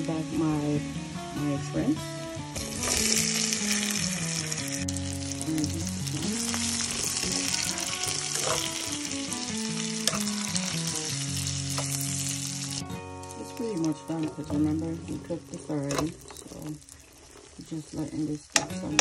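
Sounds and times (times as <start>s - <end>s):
shrimp sizzling in oil: 0.0s - 19.0s
soft background music: 0.0s - 19.0s.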